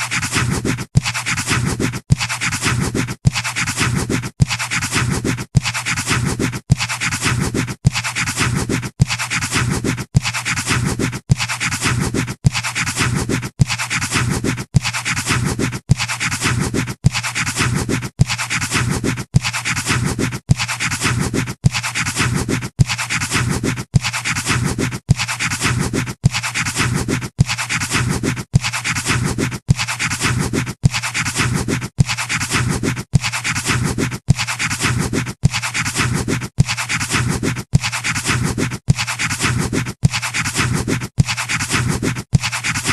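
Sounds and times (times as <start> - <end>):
pencil scratching on paper: 0.0 - 42.9.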